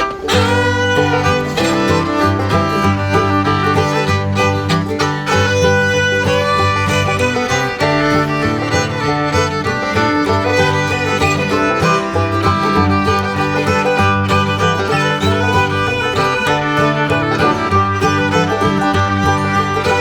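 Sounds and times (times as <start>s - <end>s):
fiddle music with bass line: 0.0s - 20.0s.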